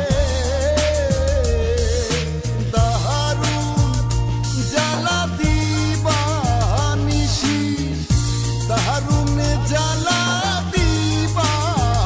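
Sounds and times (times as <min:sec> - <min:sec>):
song with beat: 0:00.0 - 0:12.0.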